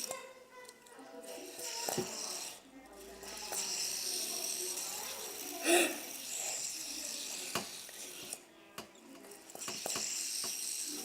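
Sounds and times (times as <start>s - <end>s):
fidget spinner rattling whir: 0.0s - 11.0s.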